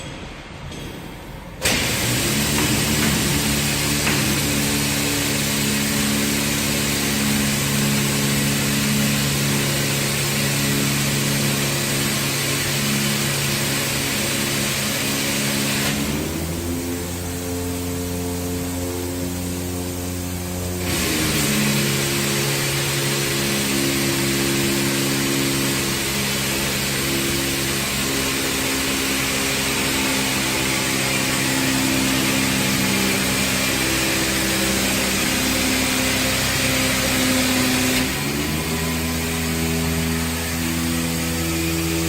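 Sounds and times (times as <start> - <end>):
loud hiss: 1.6 - 42.0
machine motor humming: 1.6 - 42.0.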